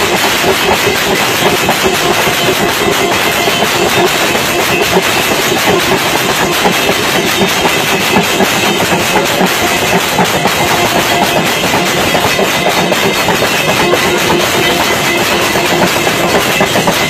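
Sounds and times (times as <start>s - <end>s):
metal gong and bells clanging: 0.0s - 17.0s.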